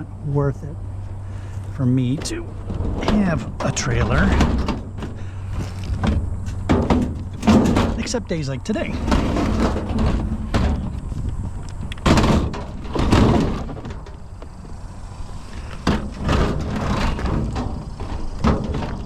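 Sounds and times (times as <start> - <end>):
low steady rumble: 0.0 - 19.0
scrap metal clanking: 1.1 - 19.0.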